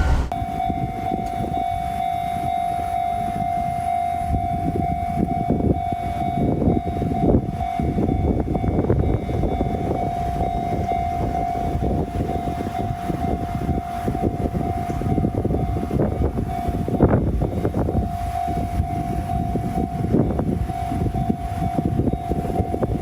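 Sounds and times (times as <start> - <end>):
railroad crossing alarm ringing: 0.0 - 23.0
train rumble: 0.0 - 23.0.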